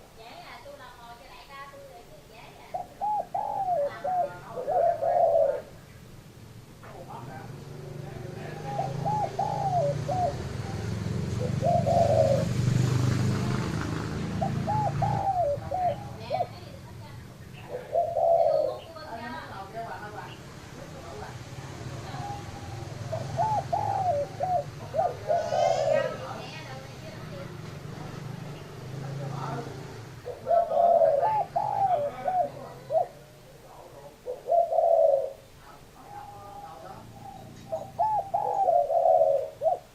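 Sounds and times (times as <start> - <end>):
dove cooing: 0.0 - 5.8, 7.0 - 39.9.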